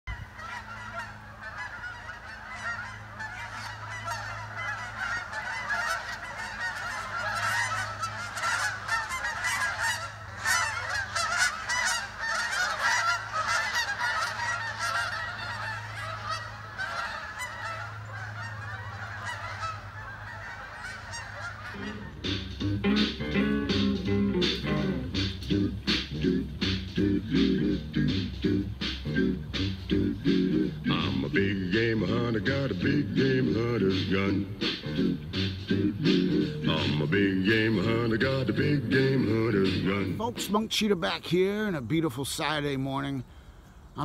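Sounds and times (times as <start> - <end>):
geese honking: 0.1 - 44.0
low steady hum: 0.1 - 44.0.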